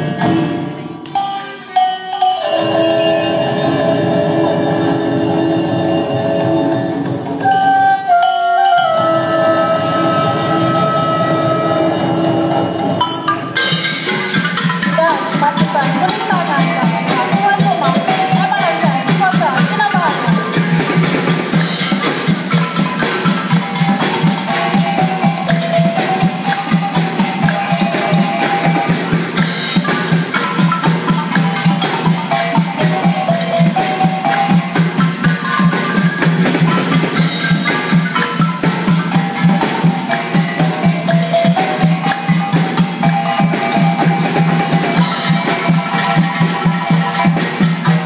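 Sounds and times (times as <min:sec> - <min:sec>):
tuned mallet percussion ensemble: 0:00.0 - 0:48.0.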